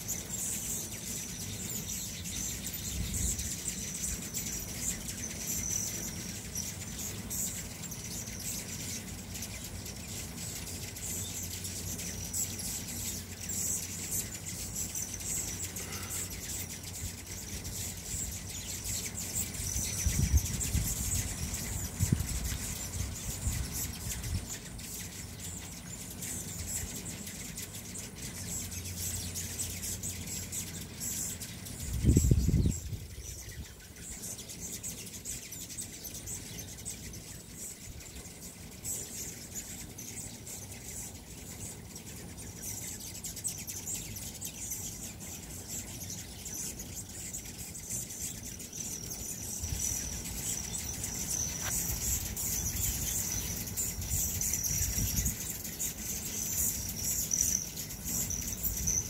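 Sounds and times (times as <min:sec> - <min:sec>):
hummingbirds chirping: 0:00.0 - 0:59.0.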